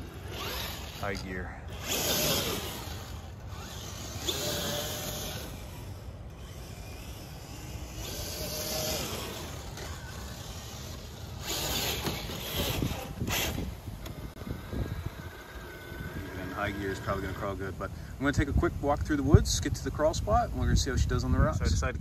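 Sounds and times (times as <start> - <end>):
electric motor and gears whining: 0.0 - 21.8
wind rumbling on microphone: 0.0 - 22.0.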